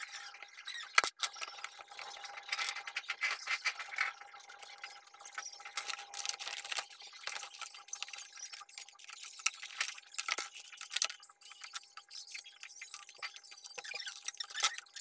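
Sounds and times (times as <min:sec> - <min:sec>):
metal parts clicking and rattling: 0:00.0 - 0:04.2, 0:05.3 - 0:15.0.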